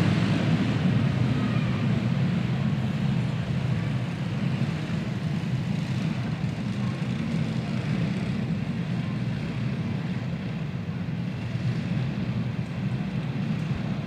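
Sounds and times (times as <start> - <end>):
kart engines rumbling: 0.0 - 14.0.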